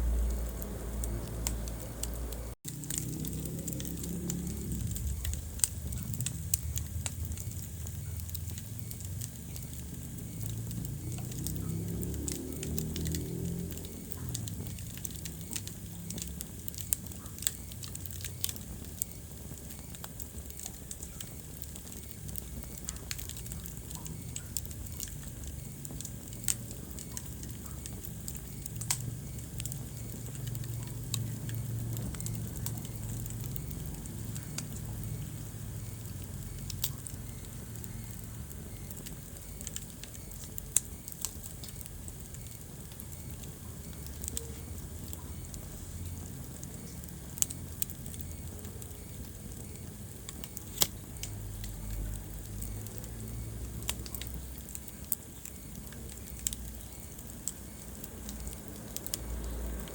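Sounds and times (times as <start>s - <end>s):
low rumble of flames: 0.0s - 59.9s
wood fire popping and snapping: 0.0s - 59.9s.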